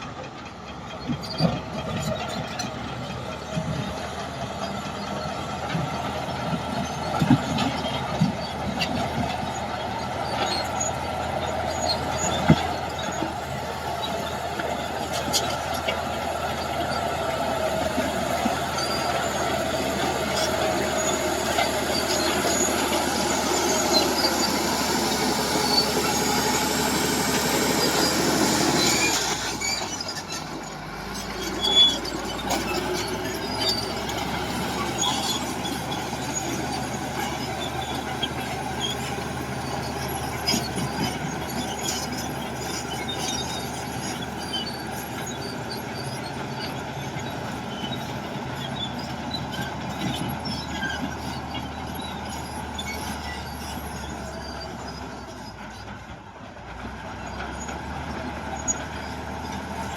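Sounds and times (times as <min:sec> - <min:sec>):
diesel engine running under load: 0:00.0 - 0:59.9
steel tracks squealing and clanking: 0:00.0 - 0:59.9.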